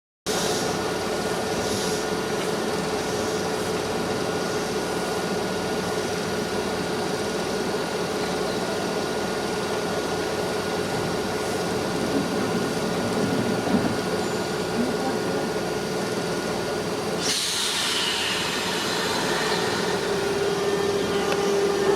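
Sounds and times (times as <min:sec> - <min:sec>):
electric train carriage humming: 0:00.3 - 0:21.9.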